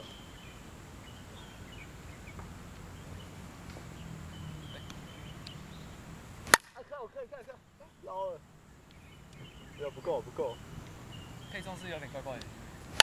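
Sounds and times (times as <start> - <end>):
high bird chirps: 0.0 - 6.0, 6.8 - 12.3.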